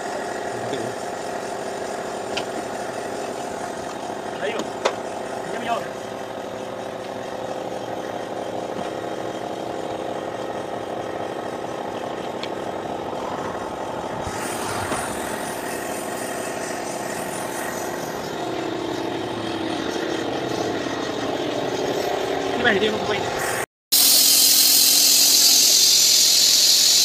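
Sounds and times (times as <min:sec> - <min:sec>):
engine humming: 0:00.0 - 0:23.7.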